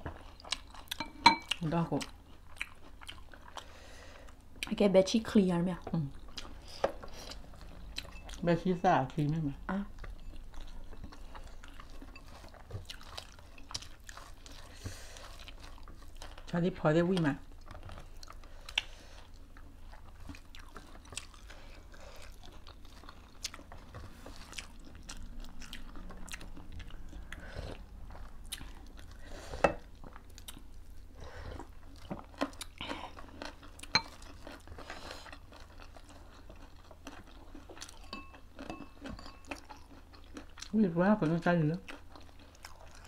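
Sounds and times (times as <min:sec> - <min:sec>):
chewing and biting food: 0:00.0 - 0:04.8, 0:06.0 - 0:08.5, 0:09.2 - 0:43.0.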